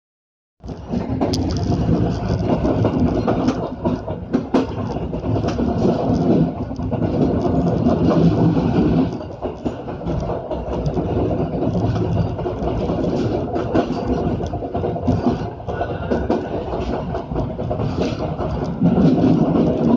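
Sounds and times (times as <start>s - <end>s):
train wheels rumbling: 0.6s - 19.9s
wheels clacking over track: 0.6s - 19.9s.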